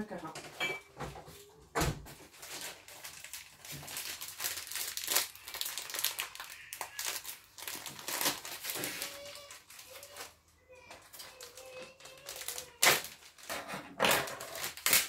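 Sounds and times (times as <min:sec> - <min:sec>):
plastic packet crinkling: 0:02.2 - 0:13.5, 0:14.2 - 0:15.0.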